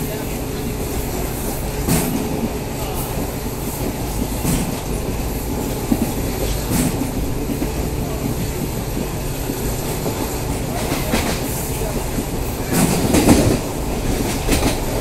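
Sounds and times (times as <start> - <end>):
train wheels rumbling on rails: 0.0 - 15.0
wheels clacking over rail joints: 0.0 - 15.0.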